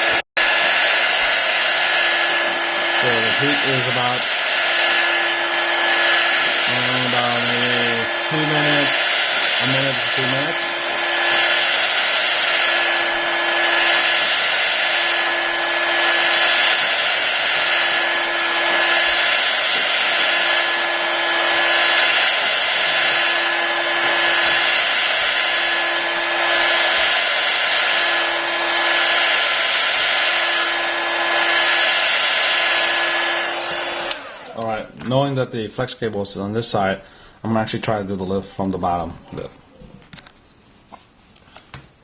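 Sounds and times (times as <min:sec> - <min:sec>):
hot-air gun blowing: 0:00.0 - 0:34.8.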